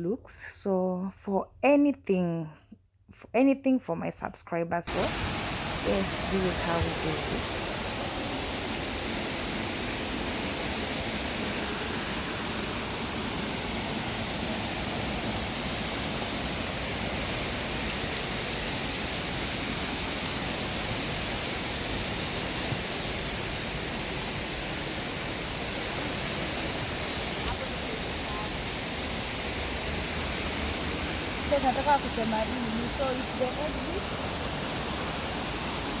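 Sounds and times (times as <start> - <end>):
rushing river water: 4.9 - 36.0.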